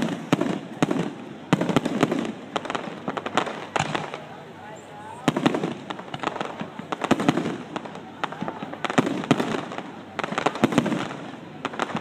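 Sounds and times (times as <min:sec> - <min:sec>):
crowd noise: 0:00.0 - 0:12.0
fireworks bangs and crackles: 0:00.0 - 0:12.0.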